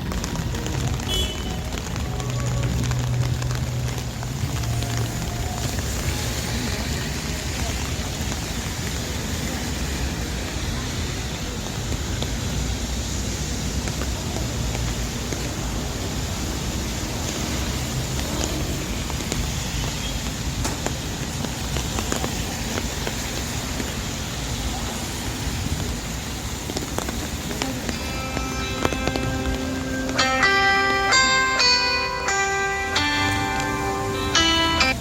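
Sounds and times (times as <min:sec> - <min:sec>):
cars passing: 0:00.0 - 0:35.0
low traffic rumble: 0:00.0 - 0:35.0
rain falling on pavement: 0:00.0 - 0:35.0
voices of passers-by: 0:00.0 - 0:35.0.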